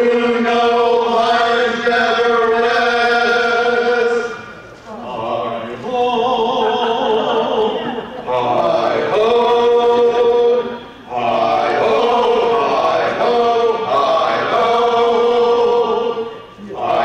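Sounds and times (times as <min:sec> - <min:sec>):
male quartet singing a cappella: 0:00.0 - 0:17.0.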